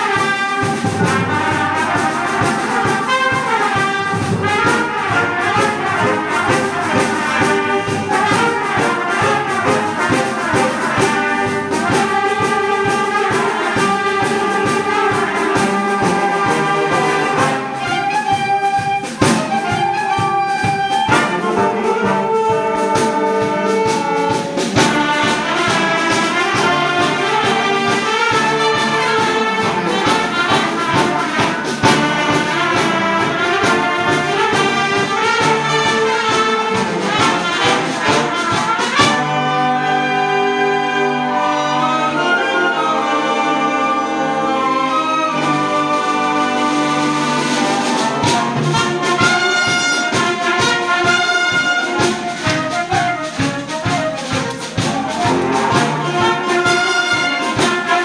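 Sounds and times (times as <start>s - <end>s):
concert wind band playing: 0.0s - 58.0s
drums and percussion: 0.0s - 58.0s.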